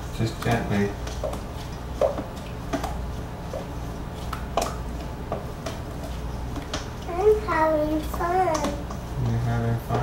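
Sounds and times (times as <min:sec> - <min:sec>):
spoons stirring in metal bowl: 0:00.2 - 0:10.0.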